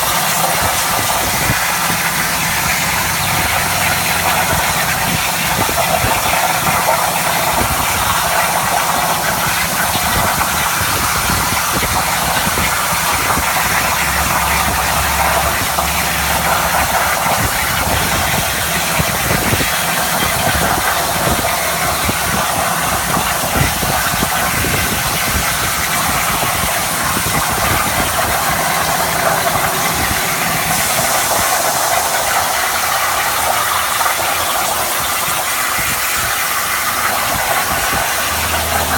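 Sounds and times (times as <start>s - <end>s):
low machine hum: 0.0s - 38.9s
plasma torch hissing: 0.0s - 38.9s.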